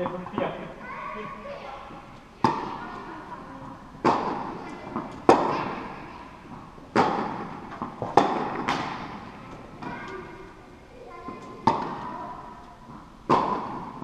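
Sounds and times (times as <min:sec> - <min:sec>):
tennis balls bouncing on court: 0:00.0 - 0:14.0
tennis balls struck by rackets: 0:01.8 - 0:14.0.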